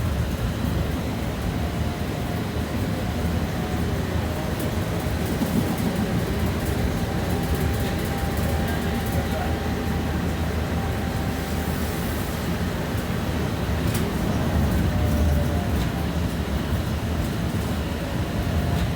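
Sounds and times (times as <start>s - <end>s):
tram wheels rumbling on rails: 0.0s - 18.9s.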